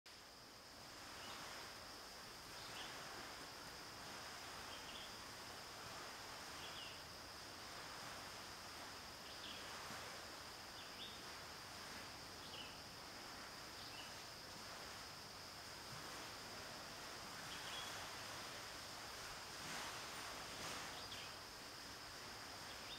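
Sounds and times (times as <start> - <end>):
soft background hiss: 0.1 - 22.9.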